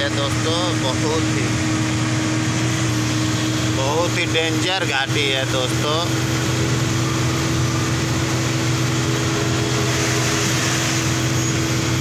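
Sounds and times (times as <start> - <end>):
truck engine hum: 0.0 - 12.0.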